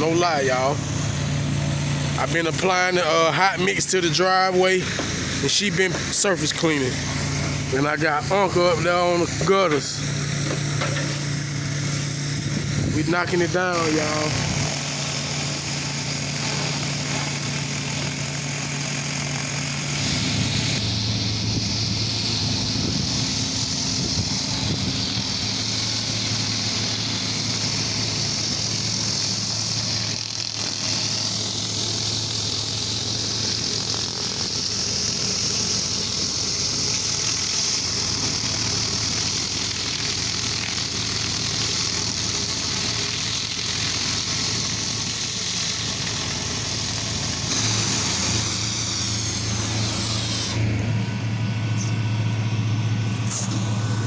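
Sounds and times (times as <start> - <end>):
water spray hissing on concrete: 0.0 - 53.9
pressure washer engine running: 0.0 - 54.0.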